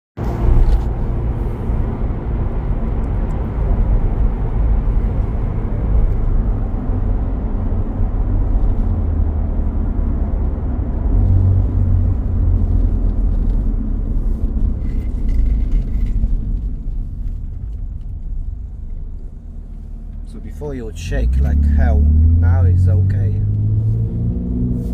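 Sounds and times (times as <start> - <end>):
car engine rumble: 0.2 - 24.9
road noise: 0.2 - 24.9.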